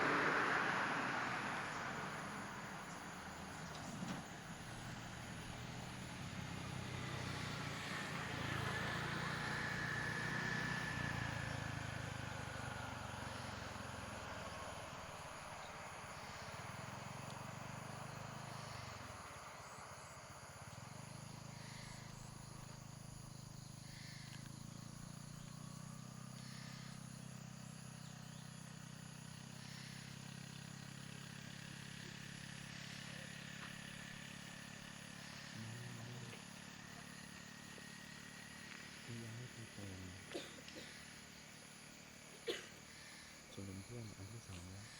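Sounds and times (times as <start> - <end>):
insects trilling: 0.0 - 44.9
vehicle engine hum: 0.0 - 44.9.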